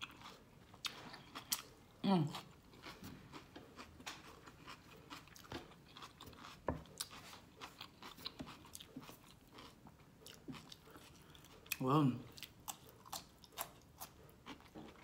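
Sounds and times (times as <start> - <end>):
chewing crunchy food: 0.0 - 15.0.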